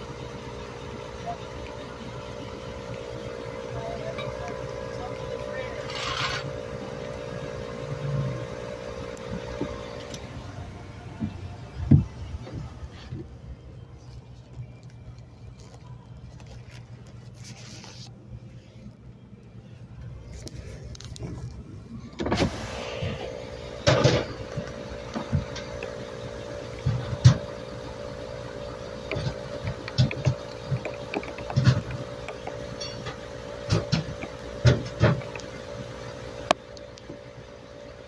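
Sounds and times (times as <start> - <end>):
air compressor humming: 0.0 - 38.0.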